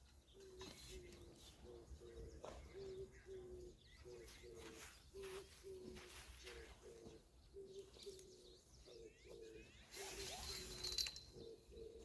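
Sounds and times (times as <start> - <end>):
small birds chirping: 0.0 - 12.0
dove cooing: 0.3 - 12.0.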